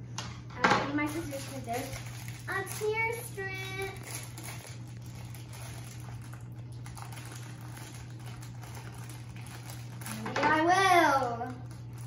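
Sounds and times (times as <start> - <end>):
steady low hum: 0.0 - 12.0
plastic bag crinkling and tearing: 1.0 - 12.0.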